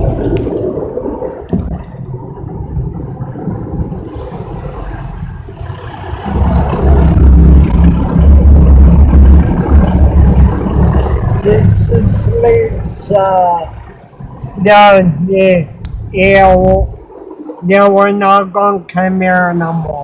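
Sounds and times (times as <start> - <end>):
car wash machinery rumble: 0.0 - 20.0.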